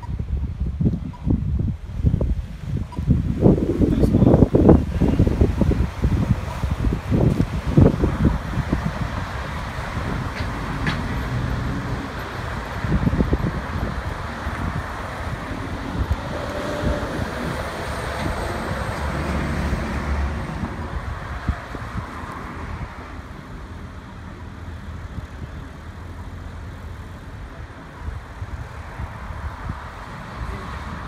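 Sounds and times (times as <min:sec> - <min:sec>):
vehicles passing with low rumble: 0:00.0 - 0:31.0.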